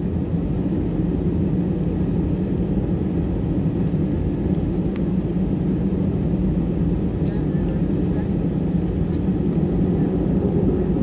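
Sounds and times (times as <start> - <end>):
airplane cabin rumble: 0.0 - 11.0
jet engines idling hum: 0.0 - 11.0.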